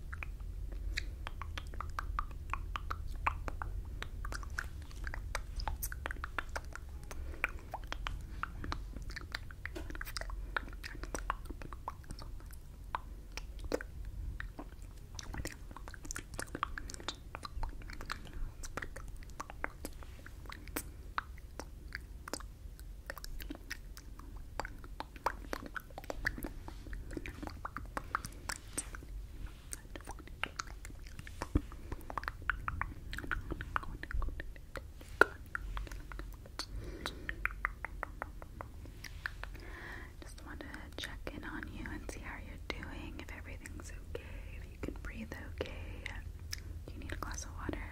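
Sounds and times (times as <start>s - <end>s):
wet lip and tongue clicks: 0.0s - 47.9s.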